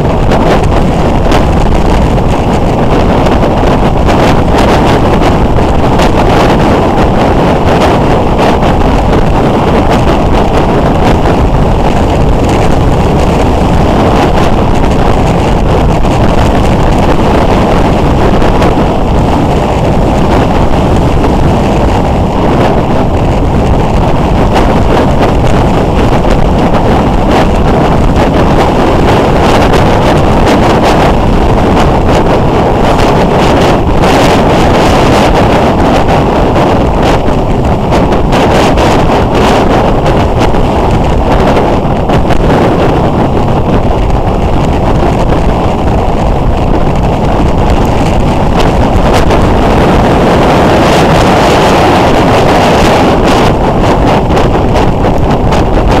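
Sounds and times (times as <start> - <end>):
road noise: 0.0 - 56.0
wind rushing on microphone: 0.0 - 56.0.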